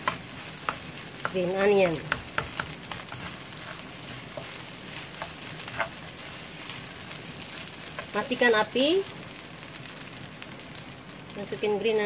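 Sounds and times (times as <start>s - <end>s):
rice sizzling in a hot pan: 0.0s - 12.0s.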